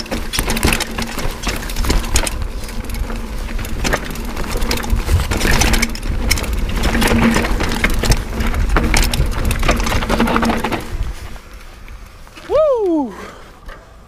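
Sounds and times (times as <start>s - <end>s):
tyres crunching over stones: 0.0s - 12.5s
bike chain and frame rattling: 0.0s - 12.6s.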